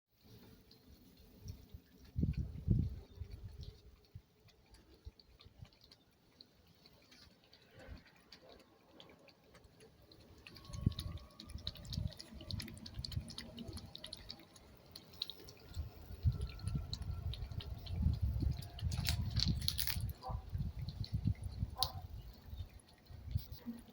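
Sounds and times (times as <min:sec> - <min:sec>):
cat lapping water: 0:00.6 - 0:23.9.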